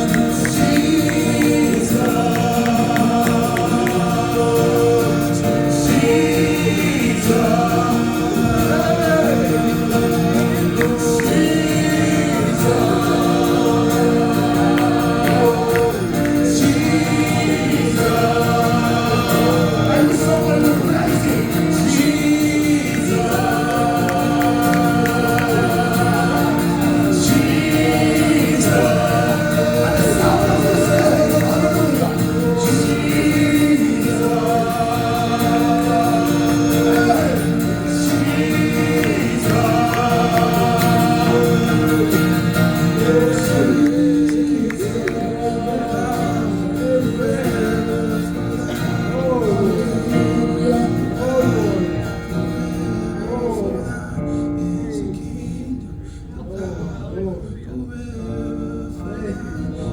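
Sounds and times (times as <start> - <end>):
sustained instrumental chords: 0.0 - 53.0
voices singing together: 0.0 - 59.9.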